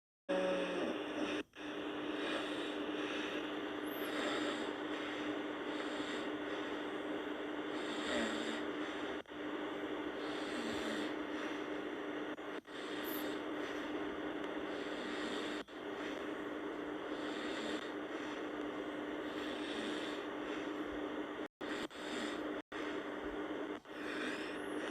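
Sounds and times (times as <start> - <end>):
person snoring: 0.3 - 24.9
steady background hum: 0.3 - 24.9.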